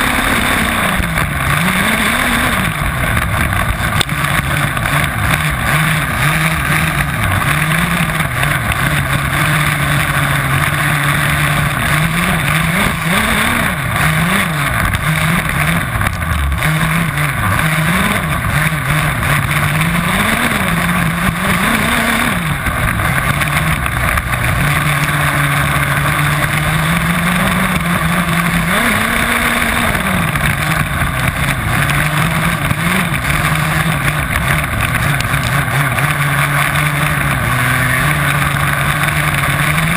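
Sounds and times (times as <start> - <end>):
steady rush of noise: 0.0 - 39.9
two-stroke engine revving: 0.0 - 39.9.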